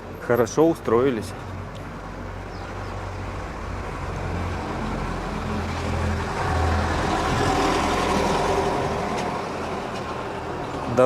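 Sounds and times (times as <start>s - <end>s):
street traffic: 0.0s - 11.0s
vehicle engine rumbling: 0.0s - 11.0s.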